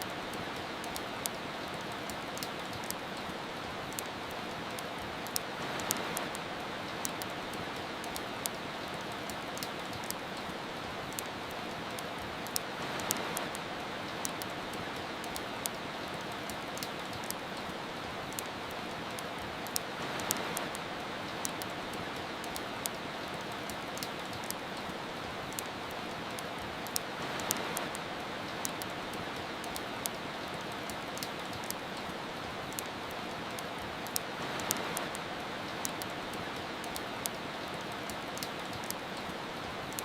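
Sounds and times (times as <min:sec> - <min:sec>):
rain hiss: 0:00.0 - 0:40.0
wood fire crackling: 0:00.0 - 0:40.0.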